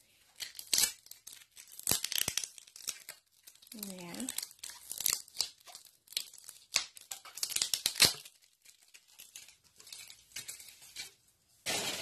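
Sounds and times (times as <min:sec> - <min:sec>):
packaging crinkling and tearing: 0:00.3 - 0:12.0.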